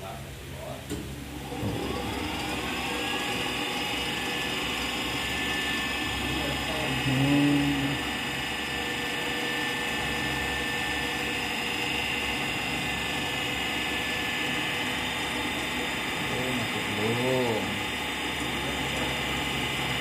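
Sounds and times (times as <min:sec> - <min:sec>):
balancing machine high whine: 0:01.3 - 0:20.0.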